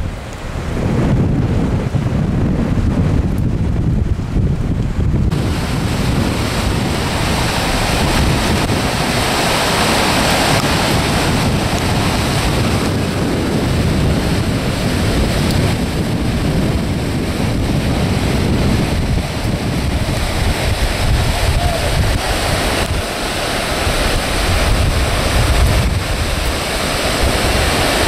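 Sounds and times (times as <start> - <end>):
floodwater rushing: 0.0 - 28.0
wind noise on microphone: 0.0 - 28.0.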